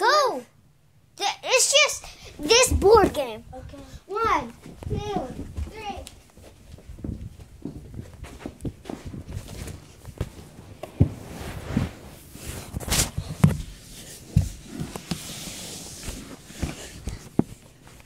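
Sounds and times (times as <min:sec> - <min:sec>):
soft thumps and scuffs: 0:02.5 - 0:18.0.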